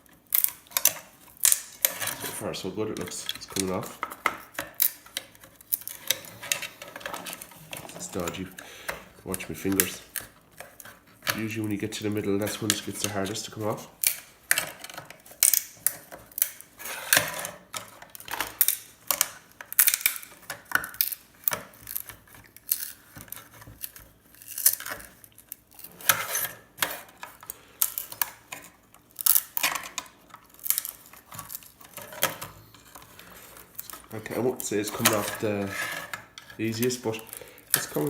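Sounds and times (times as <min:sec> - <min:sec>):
tool clicking and scraping: 0:00.0 - 0:38.0.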